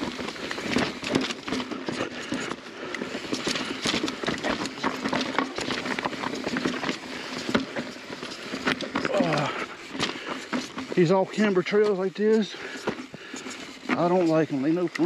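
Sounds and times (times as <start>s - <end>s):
mountain bike rattling: 0.0s - 15.0s.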